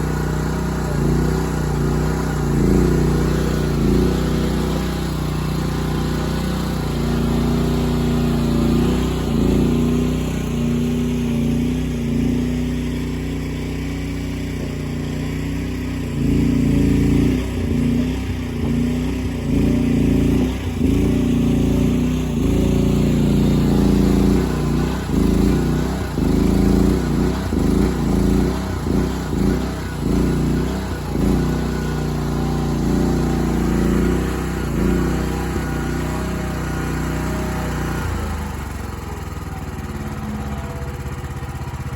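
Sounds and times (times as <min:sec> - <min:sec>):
petrol engine running under load: 0:00.0 - 0:41.9.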